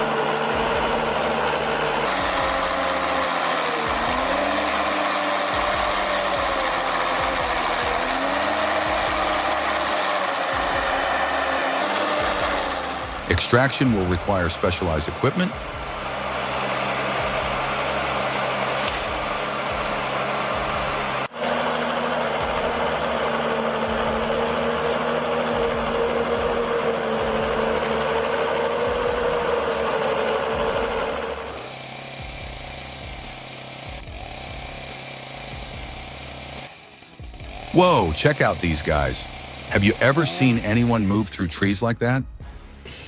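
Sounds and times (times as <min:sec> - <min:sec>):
heavy diesel engines running: 0:00.0 - 0:43.0
steady whine: 0:00.0 - 0:43.0.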